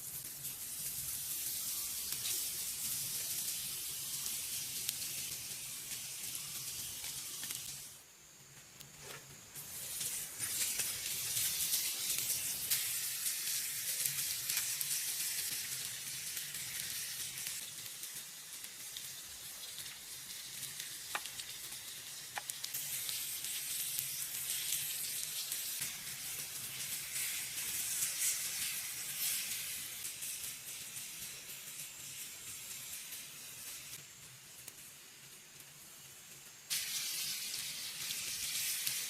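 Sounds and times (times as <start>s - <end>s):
food sizzling in frying: 0.0s - 39.0s.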